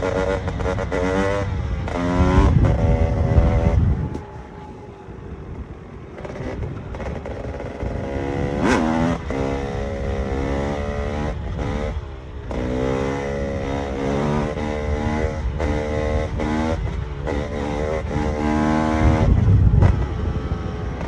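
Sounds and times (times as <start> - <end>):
two-stroke engine revving: 0.0 - 4.2, 6.1 - 20.3.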